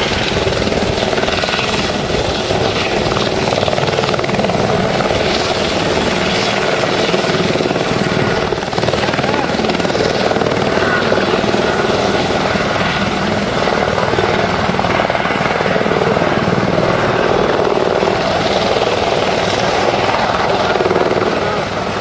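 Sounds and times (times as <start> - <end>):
helicopter engine and rotor chop: 0.0 - 22.0.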